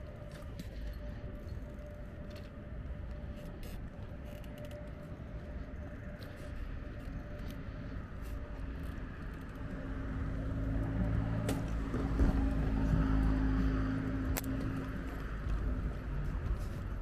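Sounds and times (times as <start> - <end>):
faint steady whine: 0.0 - 17.0
wind and tyres on pavement: 0.0 - 17.0.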